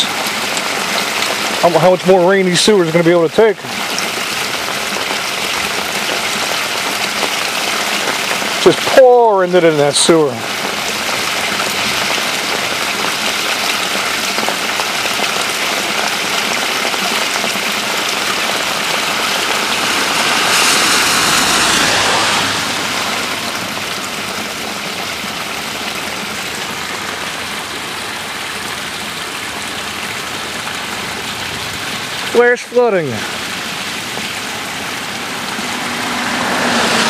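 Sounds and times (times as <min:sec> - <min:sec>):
water pouring into storm drain: 0:00.0 - 0:37.0.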